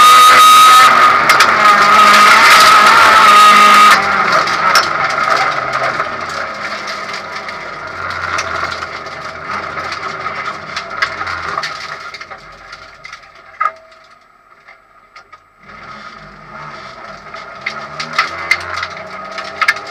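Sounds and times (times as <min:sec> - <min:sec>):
car engine at low revs: 0:00.0 - 0:13.6, 0:14.5 - 0:19.9
sharp clicks and rattles: 0:00.9 - 0:19.9.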